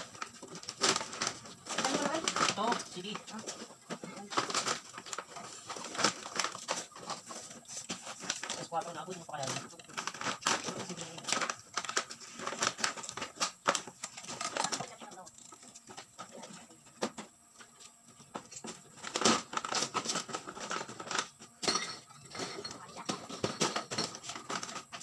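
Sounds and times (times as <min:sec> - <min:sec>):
plastic bottles and sacks crinkling: 0:00.0 - 0:25.0.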